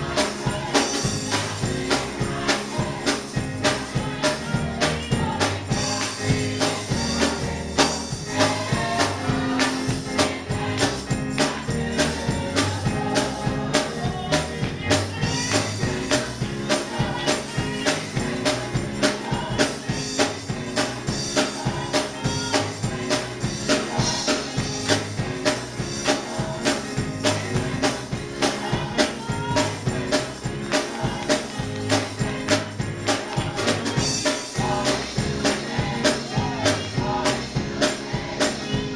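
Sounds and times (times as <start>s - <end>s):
bass line: 0.0s - 38.9s
church choir singing: 0.0s - 38.9s
steady percussion beat: 0.0s - 38.9s.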